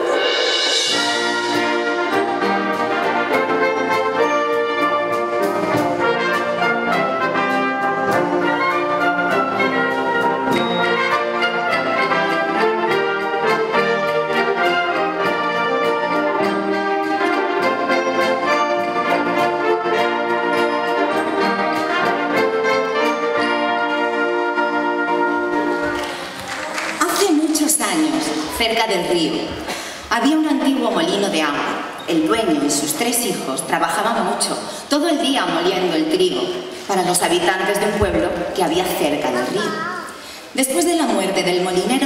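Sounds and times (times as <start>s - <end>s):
concert wind band playing: 0.0s - 42.0s.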